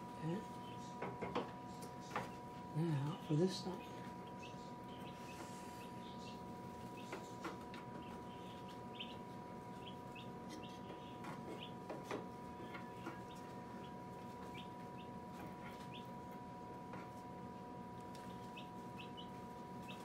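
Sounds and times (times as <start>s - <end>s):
faint hum: 0.0s - 20.0s
chicks chirping: 0.3s - 20.0s.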